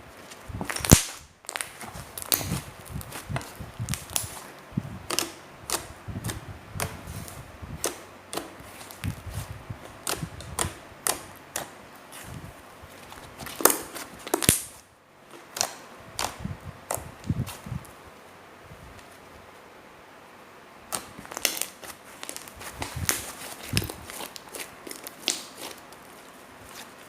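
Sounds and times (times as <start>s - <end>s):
slime squelch: 0.2s - 17.8s, 20.9s - 27.0s.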